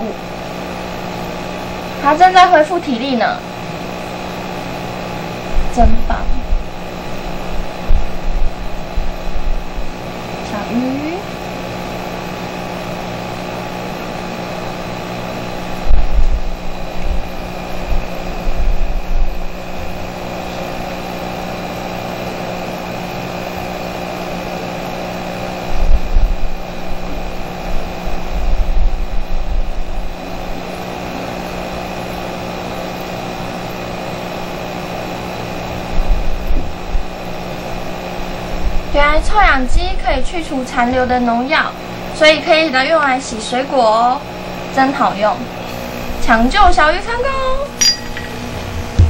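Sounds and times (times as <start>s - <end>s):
air pump humming: 0.0s - 49.0s.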